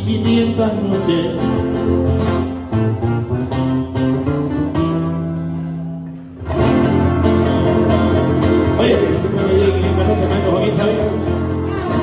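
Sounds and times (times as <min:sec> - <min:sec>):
acoustic guitars strumming: 0:00.0 - 0:12.0.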